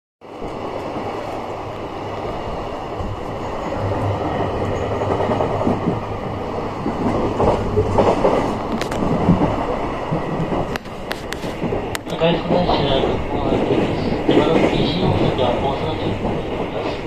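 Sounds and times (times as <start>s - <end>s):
train wheels rumbling on rails: 0.2s - 17.0s.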